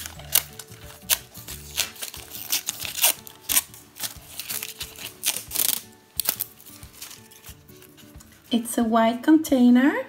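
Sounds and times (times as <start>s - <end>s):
wrapper crinkling: 0.0s - 8.5s.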